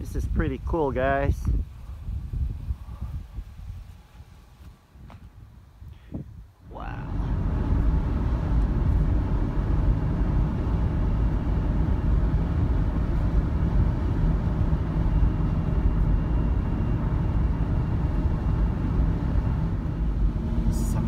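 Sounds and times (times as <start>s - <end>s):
van engine and road noise: 0.0s - 21.0s.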